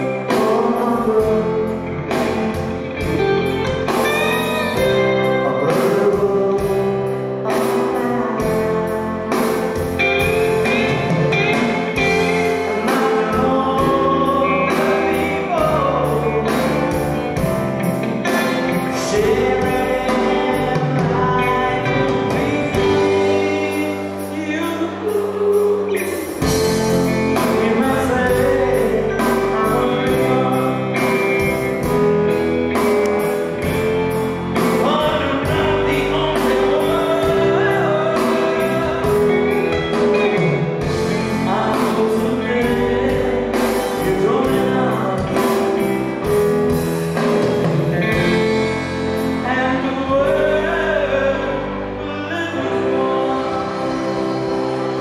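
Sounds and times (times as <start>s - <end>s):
drums: 0.0s - 55.0s
electric guitar: 0.0s - 55.0s
man singing: 0.0s - 55.0s.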